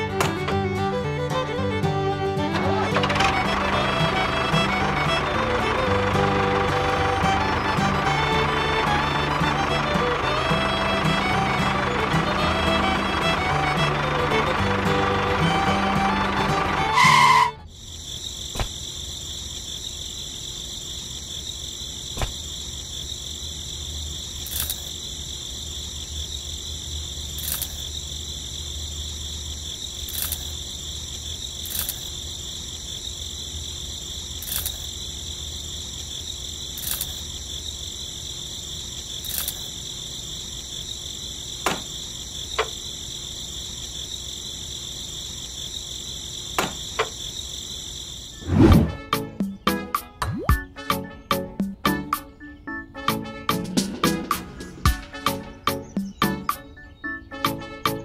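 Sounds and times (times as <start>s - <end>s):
higher insect chirp: 0.0s - 58.0s
insects chirring: 0.0s - 58.0s.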